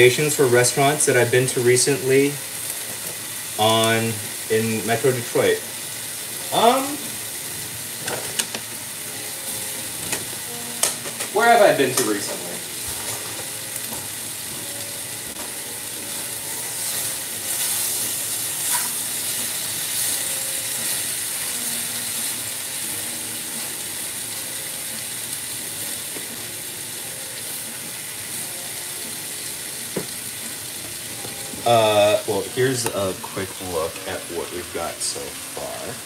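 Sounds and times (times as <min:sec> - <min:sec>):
tomatoes sizzling in a pot: 0:00.0 - 0:36.0.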